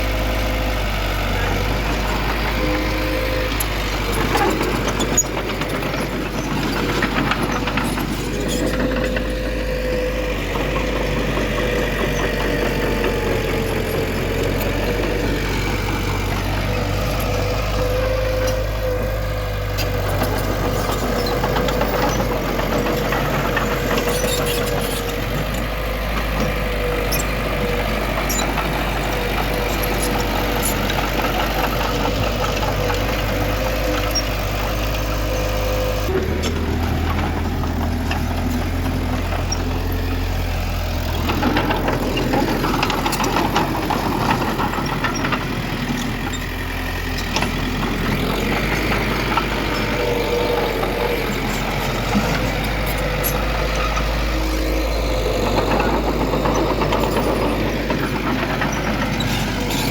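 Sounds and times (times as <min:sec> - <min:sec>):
diesel machinery engine running: 0:00.0 - 0:59.9.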